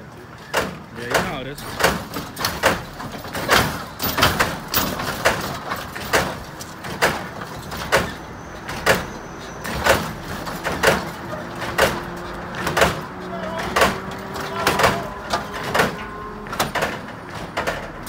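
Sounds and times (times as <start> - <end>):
hydraulic suspension metallic bangs: 0.4 - 18.0.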